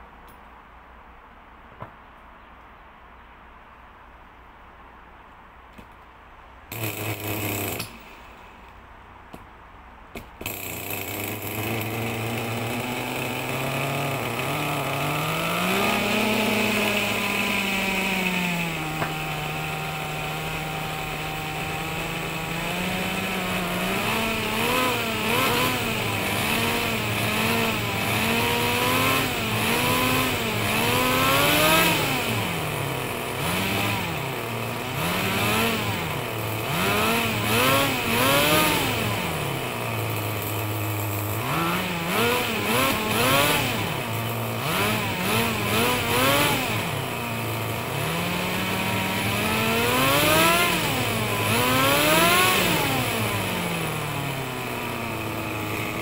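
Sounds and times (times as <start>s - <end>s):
small nitro engine revving: 6.7s - 8.4s, 10.4s - 56.0s.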